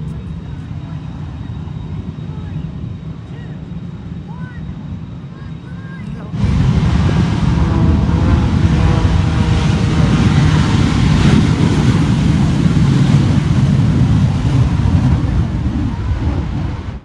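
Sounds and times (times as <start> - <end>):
aircraft engines roaring: 0.0 - 17.0.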